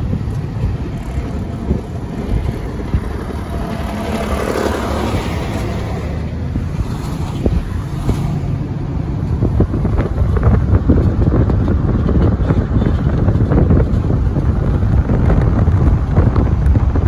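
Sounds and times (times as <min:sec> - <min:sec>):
truck passing close: 0:00.0 - 0:16.8
car road and wind rumble: 0:00.0 - 0:17.0.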